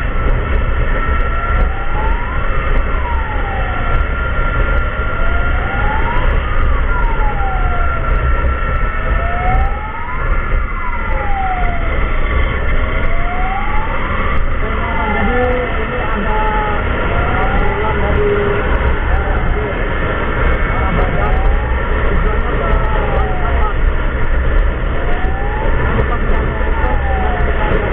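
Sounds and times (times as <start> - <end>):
emergency vehicle siren wailing: 0.0 - 27.9
road and wind rumble: 0.0 - 27.9
steady high tone: 0.0 - 27.9.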